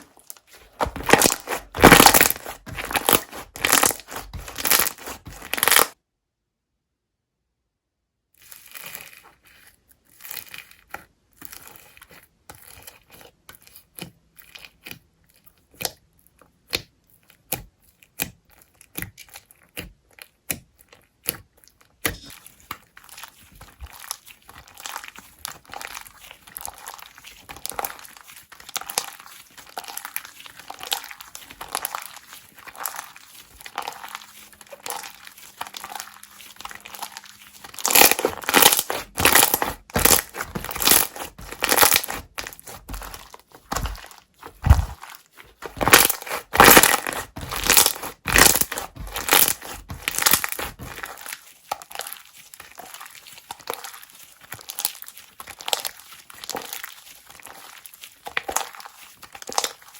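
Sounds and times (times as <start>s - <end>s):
slime squishing and popping: 0.0s - 6.0s, 13.8s - 59.9s.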